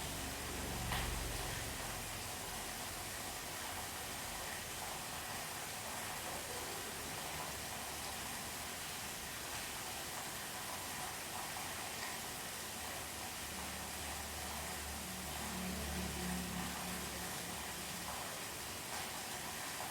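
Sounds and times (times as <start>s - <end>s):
steady rain hiss: 0.0s - 19.9s.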